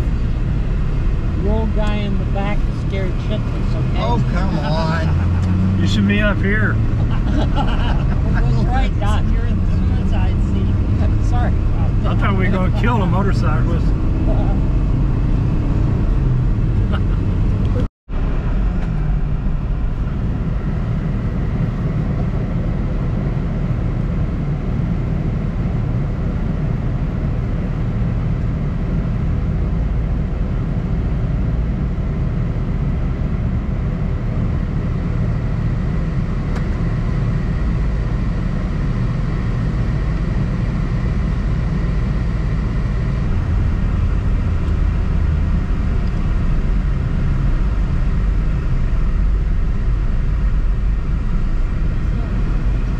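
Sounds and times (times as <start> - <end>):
car road and engine rumble: 0.0 - 52.9.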